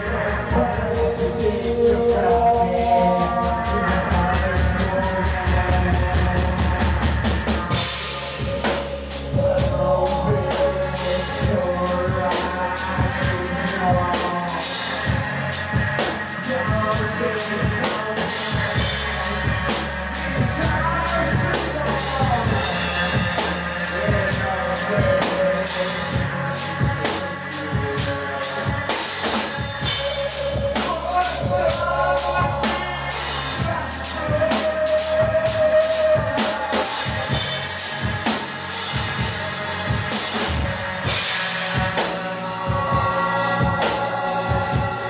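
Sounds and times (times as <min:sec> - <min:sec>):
drum kit beat: 0:00.0 - 0:45.0
low bass line: 0:00.0 - 0:45.0
synthesizer: 0:00.0 - 0:45.0.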